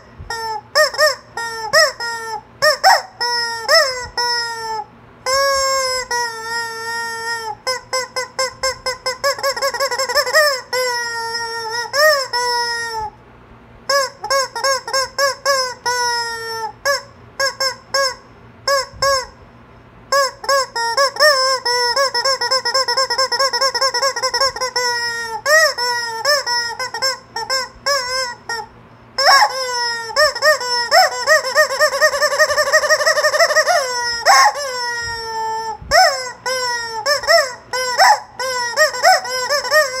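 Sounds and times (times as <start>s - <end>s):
rubber chicken toy squawking: 0.0s - 13.2s, 13.9s - 19.4s, 20.1s - 40.0s.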